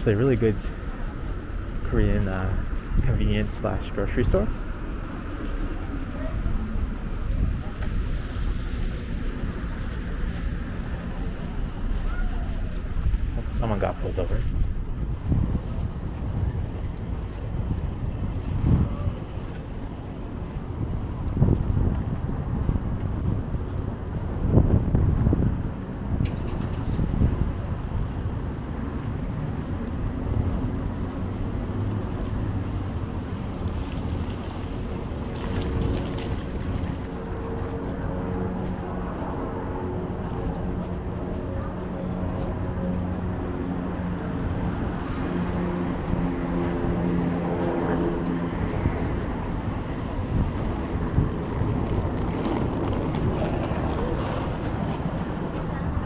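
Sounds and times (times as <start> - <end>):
cars driving by: 0.0 - 56.0
engine and tyre hum: 0.0 - 56.0
traffic rumble: 0.0 - 56.0
wind buffeting microphone: 0.0 - 56.0.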